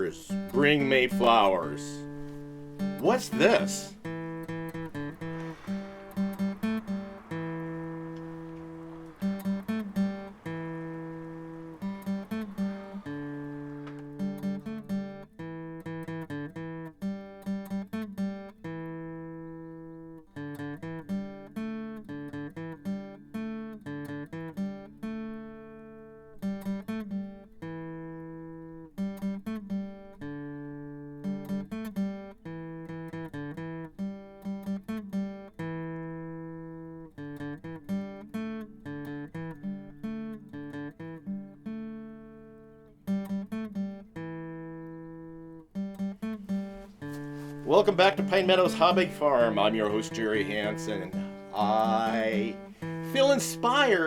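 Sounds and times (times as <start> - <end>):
acoustic guitar: 0.0 - 54.0.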